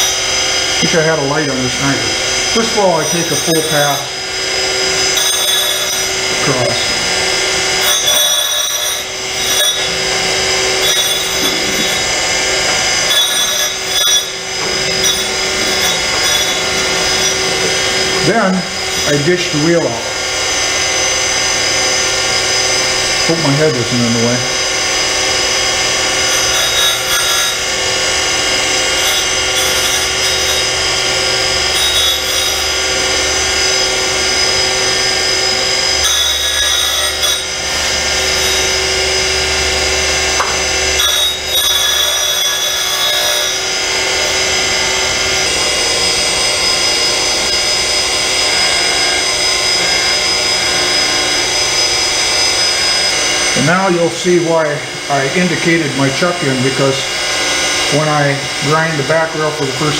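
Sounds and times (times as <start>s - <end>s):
dresser scraping grinding wheel: 0.0s - 54.5s
surface grinder whining: 0.0s - 59.9s.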